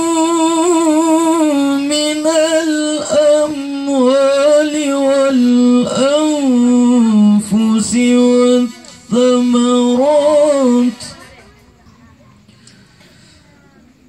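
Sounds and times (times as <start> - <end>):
man reciting melodically: 0.0 - 11.5.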